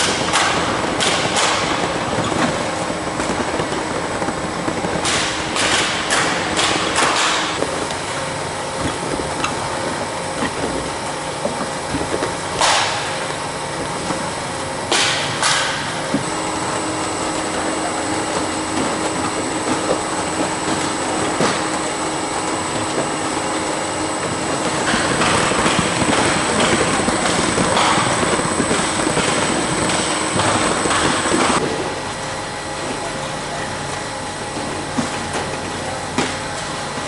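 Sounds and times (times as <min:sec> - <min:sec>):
conveyor machine clatter: 0:00.0 - 0:37.0.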